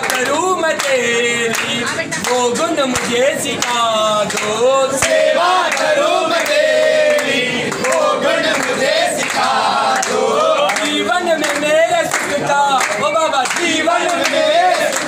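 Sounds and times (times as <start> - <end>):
hand claps: 0.0 - 15.0
men singing in chorus: 0.0 - 15.0.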